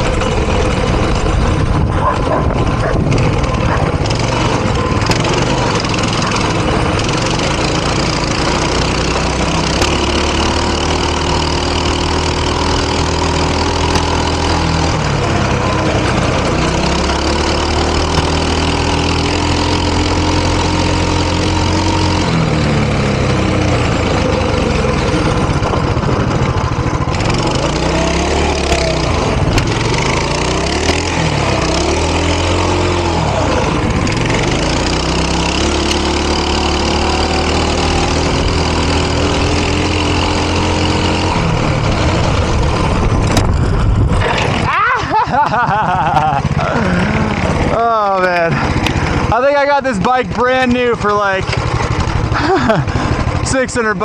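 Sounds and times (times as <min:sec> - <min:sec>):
mini bike engine revving: 0:00.0 - 0:54.0.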